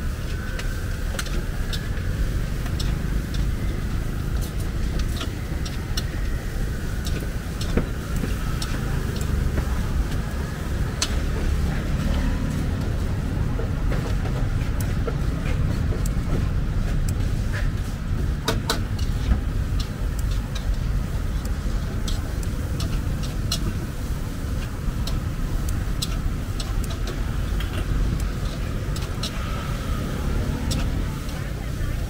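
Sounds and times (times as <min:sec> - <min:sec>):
rumble of passing vehicles: 0:00.0 - 0:32.0.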